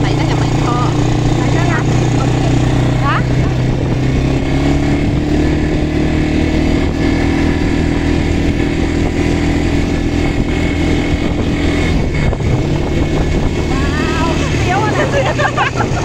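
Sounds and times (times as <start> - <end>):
quad bike engine running: 0.0 - 16.0.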